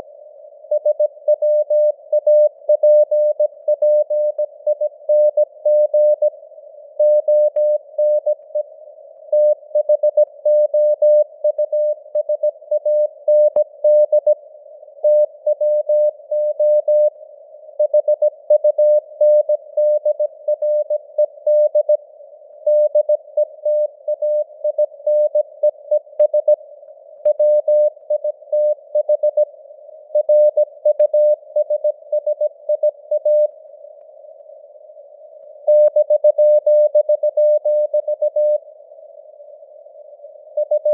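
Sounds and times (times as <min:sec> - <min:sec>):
faint radio hiss: 0:00.0 - 0:40.9.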